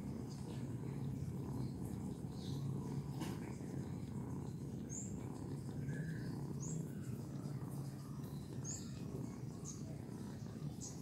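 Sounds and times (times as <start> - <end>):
kitten purring: 0.0 - 11.0.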